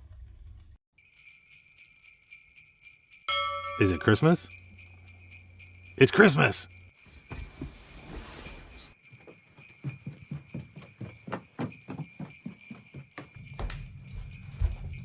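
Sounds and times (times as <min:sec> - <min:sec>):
small bells jingling: 0:01.0 - 0:15.0.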